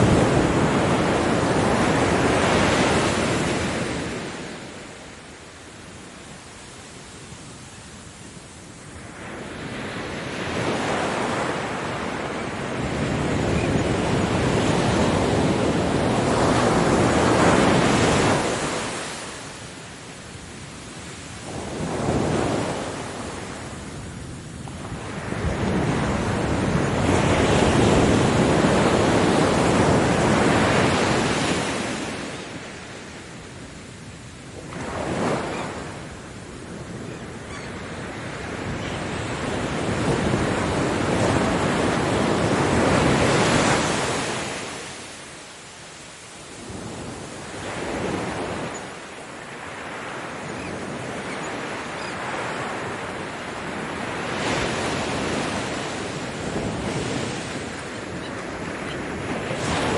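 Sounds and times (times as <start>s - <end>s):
wind on microphone: 0.0s - 5.2s, 5.9s - 45.2s, 46.3s - 59.9s
ocean waves breaking: 0.0s - 59.9s.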